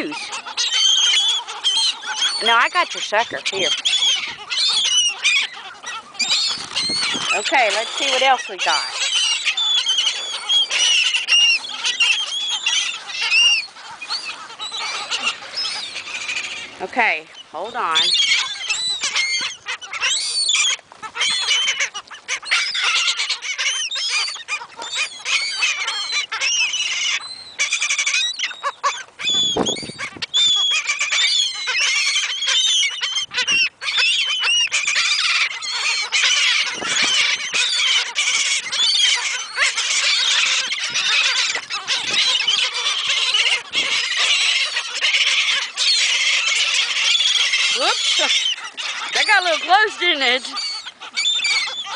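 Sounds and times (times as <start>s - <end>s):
seagulls calling: 0.0s - 51.9s.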